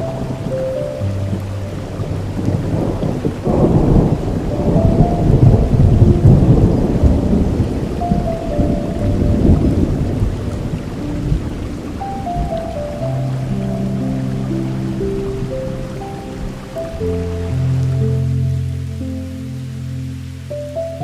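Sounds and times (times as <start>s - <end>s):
thunder rumbling: 0.0s - 18.9s
soft music notes: 0.0s - 21.0s
steady rain: 0.0s - 21.0s.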